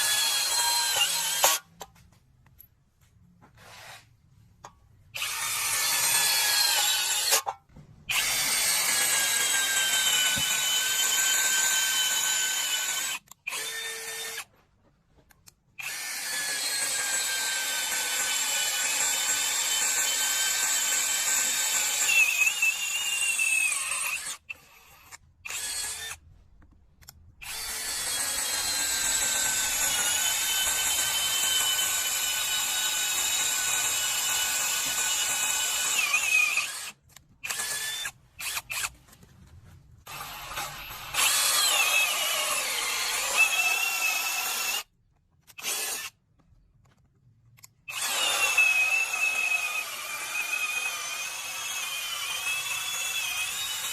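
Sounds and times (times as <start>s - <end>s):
cordless drill whining: 0.0s - 1.6s, 5.2s - 7.5s, 8.1s - 14.5s, 15.8s - 26.2s, 27.4s - 38.9s, 40.1s - 44.9s, 45.6s - 46.2s, 47.9s - 53.9s.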